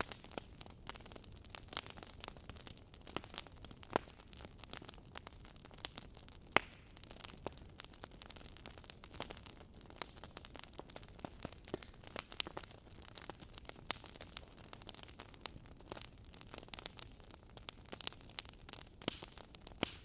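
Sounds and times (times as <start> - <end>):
faint steady hiss: 0.0 - 20.0
wood fire crackling: 0.0 - 20.0.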